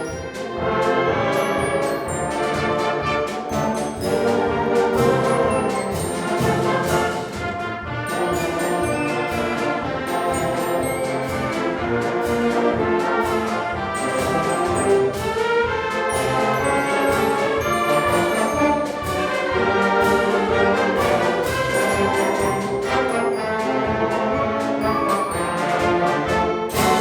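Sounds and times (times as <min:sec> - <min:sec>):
wind orchestra playing a march: 0:00.0 - 0:27.0.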